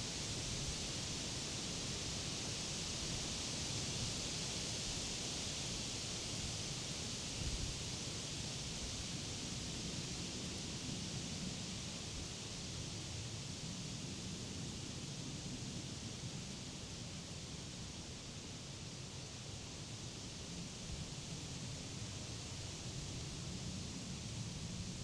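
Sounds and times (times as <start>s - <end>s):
wind rustling leaves: 0.0s - 25.0s.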